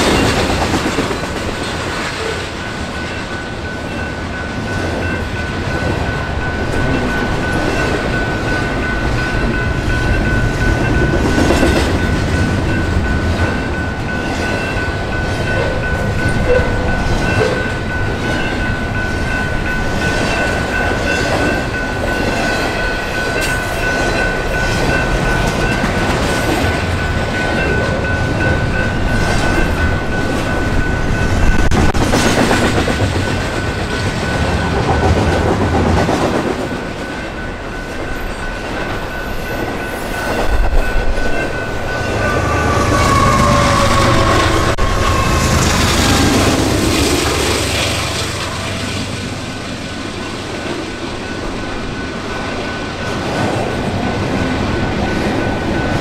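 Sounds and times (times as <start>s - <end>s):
train rumble: 0.0s - 56.0s
train wheels clicking on rails: 0.0s - 56.0s.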